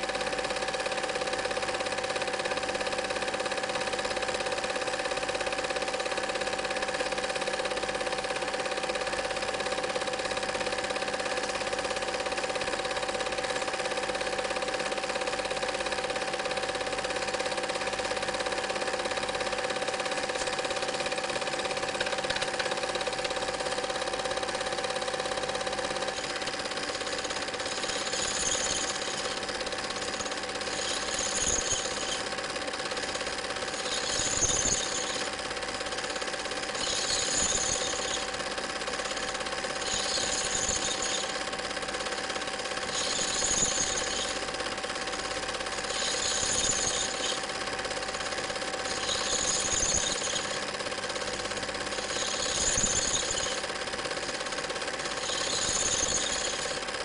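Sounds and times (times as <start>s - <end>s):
film projector whirring and clattering: 0.0s - 57.0s.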